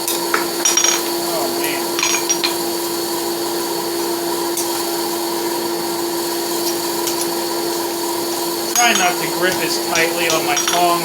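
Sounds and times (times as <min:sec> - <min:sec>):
motor hum with high whine: 0:00.0 - 0:11.0.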